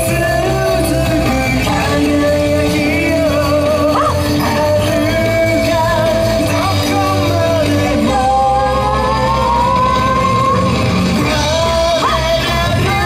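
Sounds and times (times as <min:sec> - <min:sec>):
sung dance song over beat: 0:00.0 - 0:13.0.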